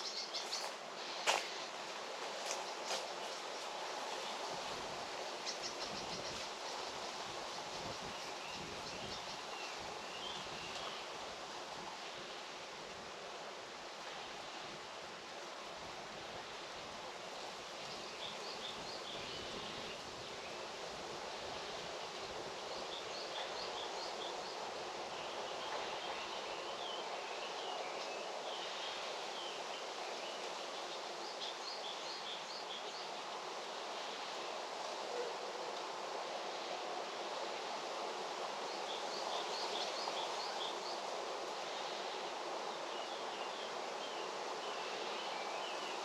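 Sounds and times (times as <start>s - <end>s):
steady outdoor hiss: 0.0s - 46.0s.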